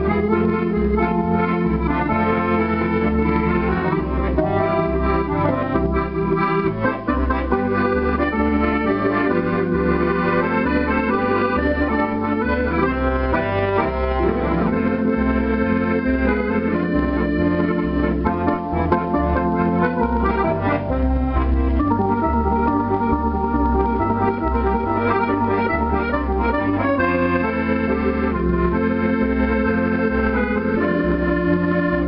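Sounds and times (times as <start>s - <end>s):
electronic accordion tune: 0.0s - 32.0s.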